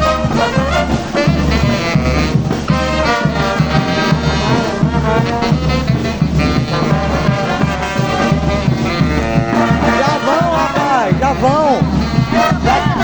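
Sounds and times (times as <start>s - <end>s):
brass band playing: 0.0s - 13.0s
steady drum beat: 0.0s - 13.0s.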